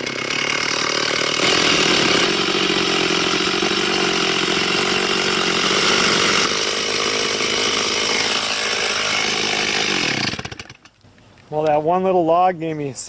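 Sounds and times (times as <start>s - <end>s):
chainsaw cutting log: 0.0s - 11.0s.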